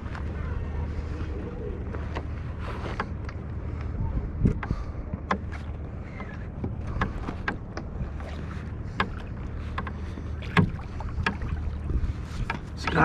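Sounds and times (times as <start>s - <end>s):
steady low rumble: 0.0s - 13.0s
water lapping at hull: 0.0s - 13.0s
knocks and clicks from kayak: 1.9s - 13.0s.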